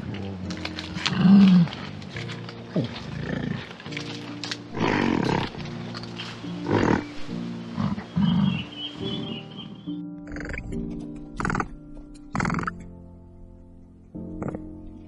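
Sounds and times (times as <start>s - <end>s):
animal calls: 0.0s - 12.9s, 14.2s - 14.8s
background music with held notes: 0.0s - 15.0s.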